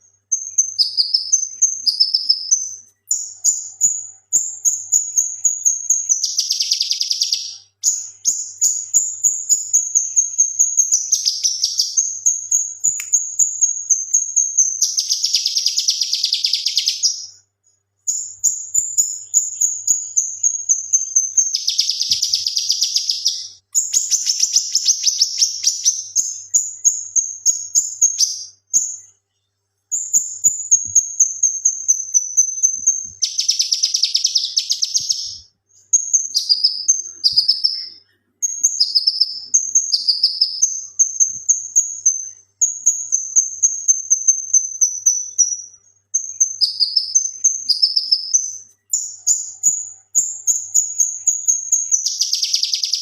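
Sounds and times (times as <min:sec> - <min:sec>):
bird singing with buzzing trills: 0:00.0 - 0:17.4, 0:18.1 - 0:29.0, 0:29.9 - 0:53.0.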